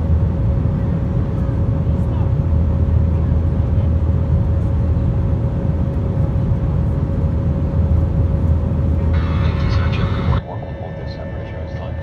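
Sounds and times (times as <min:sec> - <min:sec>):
jet engine and airflow rumble: 0:00.0 - 0:12.0.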